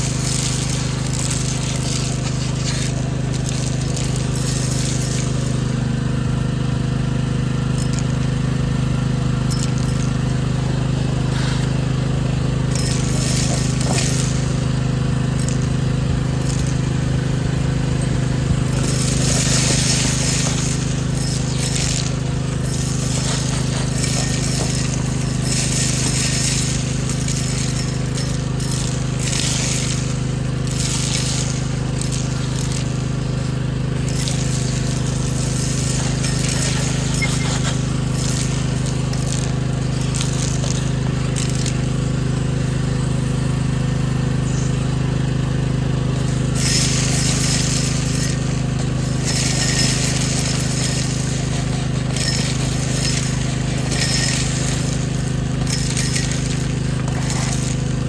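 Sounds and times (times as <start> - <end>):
grit rattling up vacuum hose: 0.0 - 58.0
vacuum cleaner running: 0.0 - 58.0.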